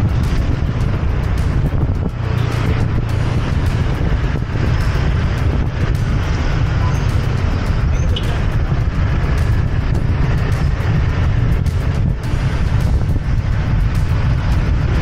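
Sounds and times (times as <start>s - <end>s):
heavy wind rumble on microphone: 0.0s - 15.0s
road and traffic noise: 0.0s - 15.0s.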